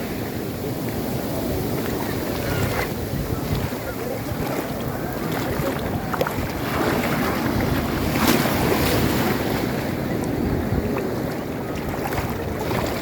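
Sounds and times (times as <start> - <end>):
sea surf rushing: 0.0 - 13.0
wind buffeting the microphone: 0.0 - 13.0.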